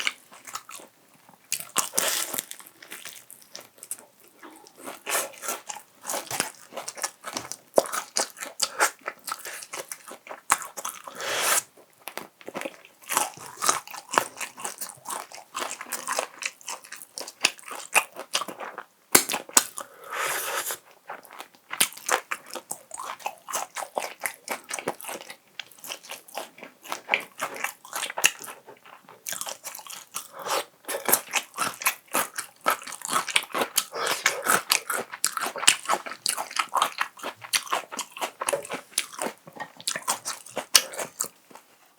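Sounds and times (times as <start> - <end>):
crunchy chewing of fried chicken: 0.0 - 41.8.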